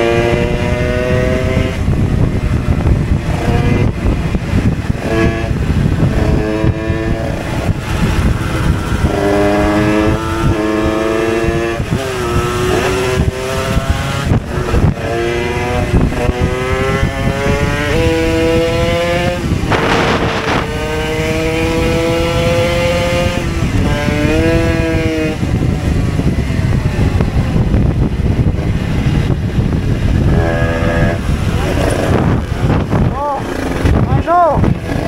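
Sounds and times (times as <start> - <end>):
moped engine revving: 0.0 - 35.0
wind rumble on microphone: 0.0 - 35.0.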